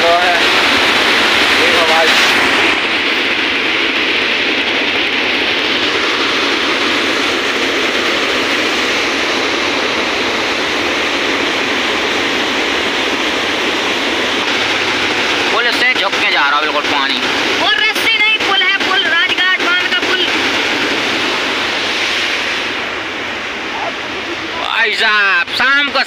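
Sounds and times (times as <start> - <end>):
rushing water from dam spillway: 0.0 - 26.0.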